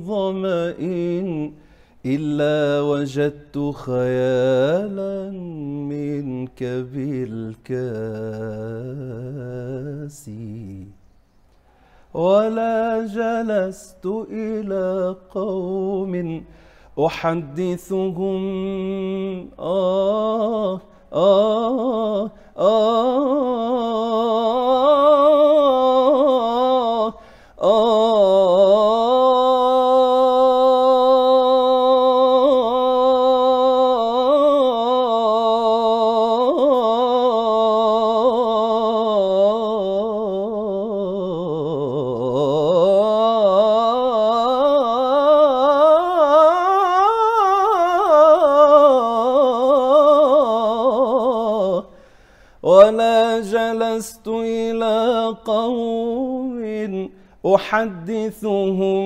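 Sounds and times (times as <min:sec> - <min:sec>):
solo voice chanting melismatically: 0:00.0 - 0:59.0.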